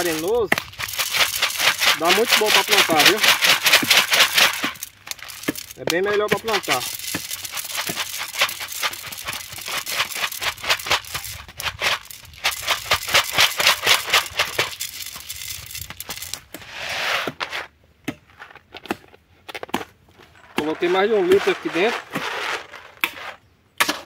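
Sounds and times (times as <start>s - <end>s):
corn kernels rattling into planter: 0.0s - 16.5s, 20.4s - 23.3s.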